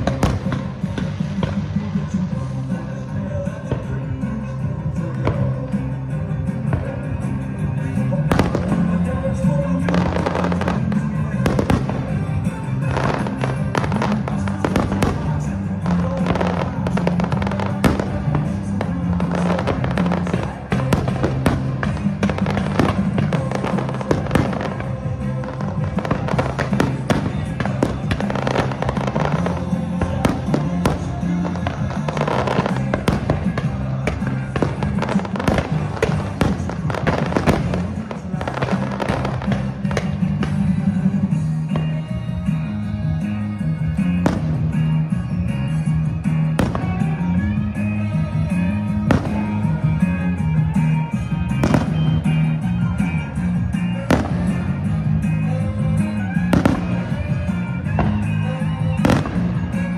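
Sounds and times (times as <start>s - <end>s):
fireworks bursting and crackling: 0.0s - 59.9s
loud music: 0.0s - 59.9s.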